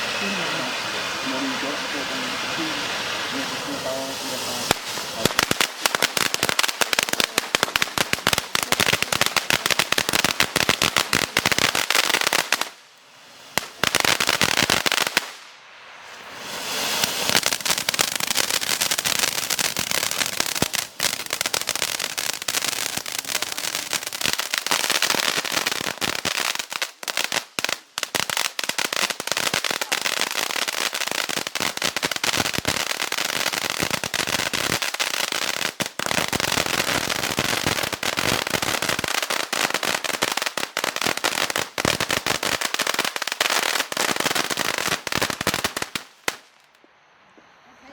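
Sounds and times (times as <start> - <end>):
fountain firework crackling: 0.0 - 46.8.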